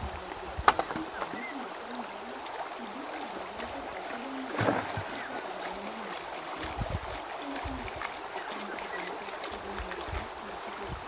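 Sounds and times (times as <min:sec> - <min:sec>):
running stream: 0:00.0 - 0:11.0
water splash: 0:00.0 - 0:11.0.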